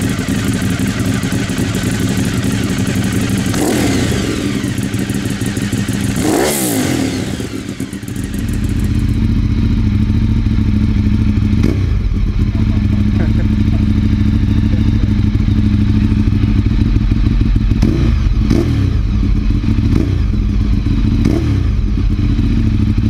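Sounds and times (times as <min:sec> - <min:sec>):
engine running steadily: 0:00.0 - 0:23.0
motorcycle engine revving: 0:00.0 - 0:23.0.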